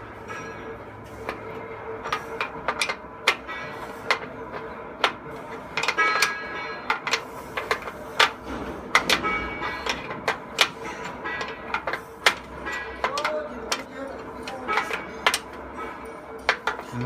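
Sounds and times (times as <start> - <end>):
steady hum: 0.0 - 17.0
metal clanks and taps: 0.2 - 17.0.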